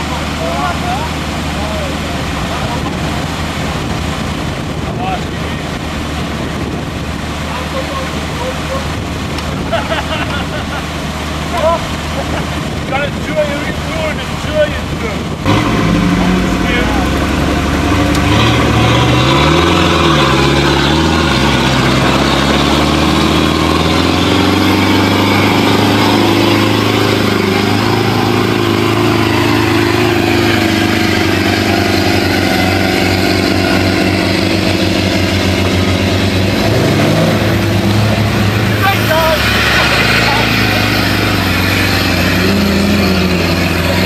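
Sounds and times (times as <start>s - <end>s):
off-road engine revving: 0.0s - 44.0s.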